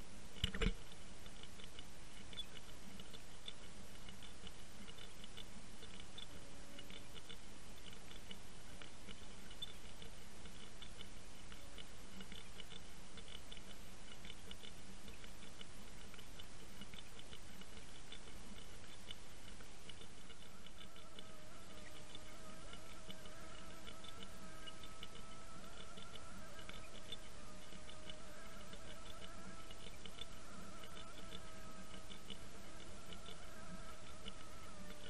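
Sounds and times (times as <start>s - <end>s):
rapid irregular clicking: 0.0s - 35.0s.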